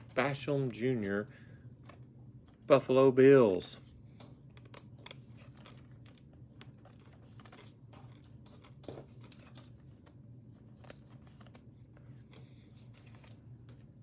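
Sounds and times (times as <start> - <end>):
trading cards and foil wrappers crinkling: 0.0 - 14.0.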